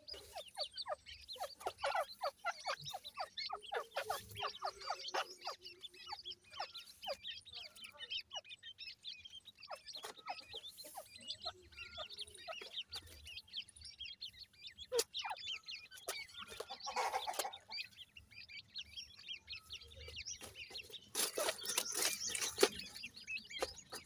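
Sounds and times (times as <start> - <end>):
chicks peeping: 0.0 - 24.0.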